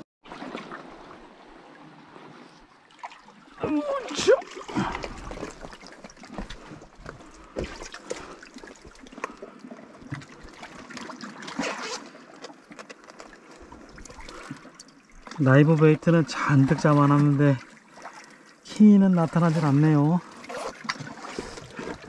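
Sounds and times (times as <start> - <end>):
water splashing and trickling: 0.2 - 22.0.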